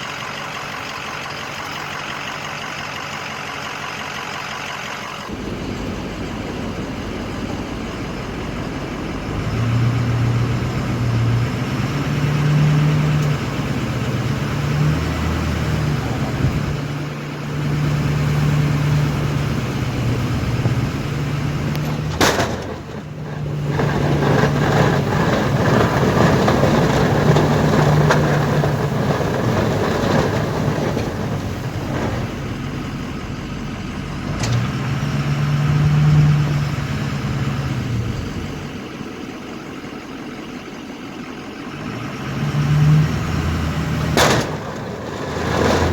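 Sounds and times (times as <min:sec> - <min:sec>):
truck engine and road noise: 0:00.0 - 0:45.9.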